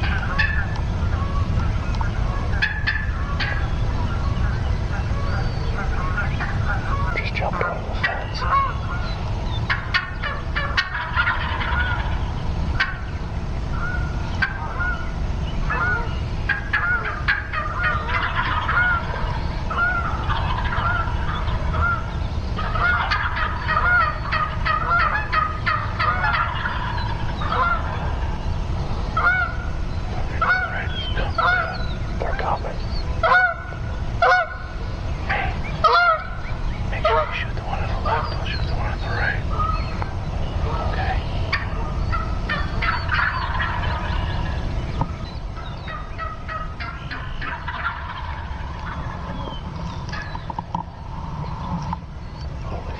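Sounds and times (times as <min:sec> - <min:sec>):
steady low rumble: 0:00.0 - 0:52.9
turkeys yelping: 0:00.0 - 0:52.9.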